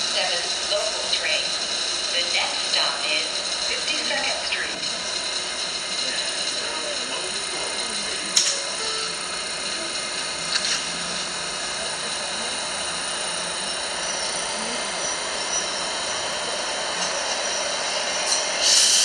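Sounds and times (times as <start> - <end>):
loud air hissing: 0.0 - 19.0
subway train humming: 0.0 - 19.0.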